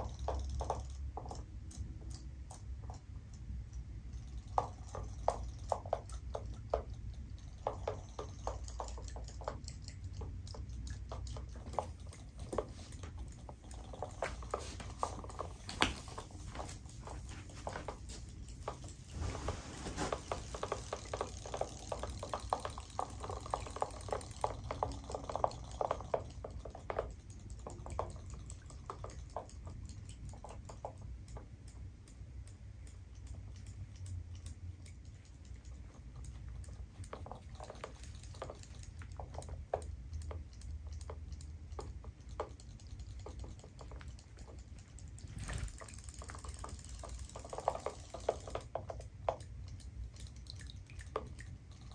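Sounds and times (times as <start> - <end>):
toy fish tails clicking and splashing: 0.0 - 19.2, 20.1 - 51.9.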